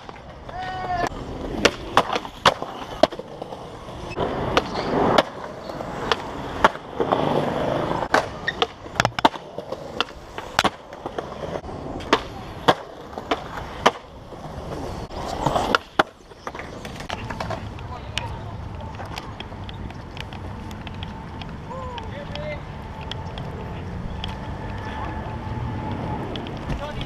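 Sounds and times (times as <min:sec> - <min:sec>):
skateboards popping and clacking: 0:00.0 - 0:27.0
skateboards rolling on concrete: 0:00.0 - 0:27.0.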